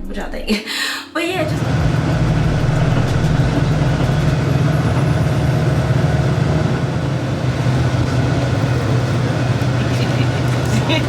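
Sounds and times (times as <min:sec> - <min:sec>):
bus engine and road noise: 0:01.4 - 0:11.0.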